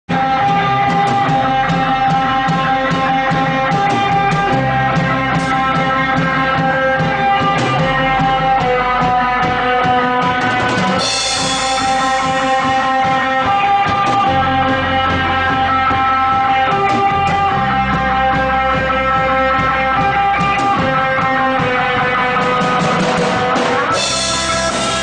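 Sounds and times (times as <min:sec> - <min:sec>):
rock band playing live: 0:00.1 - 0:25.0.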